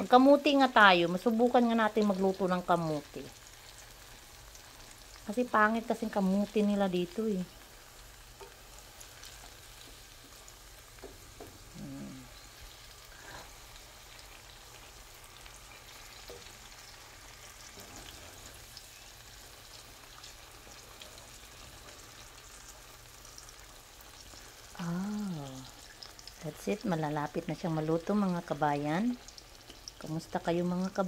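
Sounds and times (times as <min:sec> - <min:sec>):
banana frying in oil: 0:00.0 - 0:31.0.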